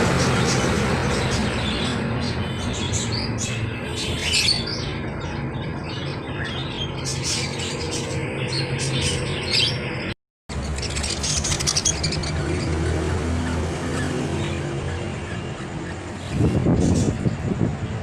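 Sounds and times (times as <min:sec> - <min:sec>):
cage birds chirping and squawking: 0:00.0 - 0:18.0.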